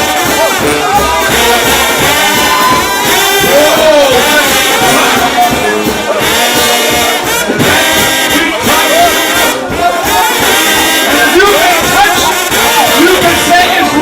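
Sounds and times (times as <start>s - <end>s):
brass band playing loud: 0.0s - 14.0s.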